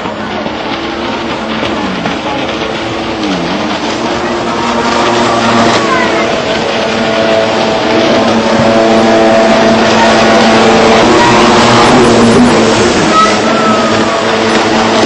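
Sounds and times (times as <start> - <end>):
jet ski engines running: 0.0 - 15.0.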